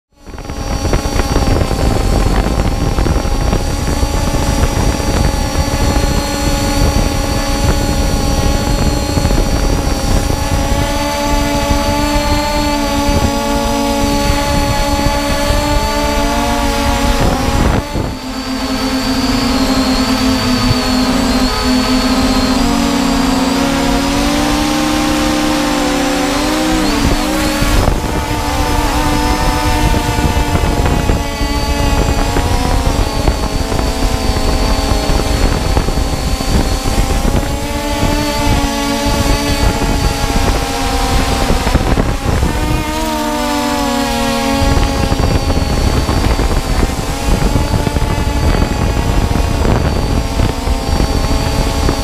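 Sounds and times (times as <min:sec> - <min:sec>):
drone propellers whining: 0:00.1 - 0:52.0.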